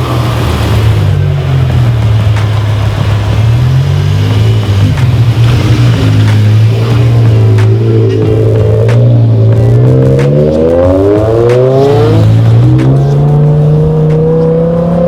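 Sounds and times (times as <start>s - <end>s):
loud car engine and exhaust: 0.0s - 15.0s.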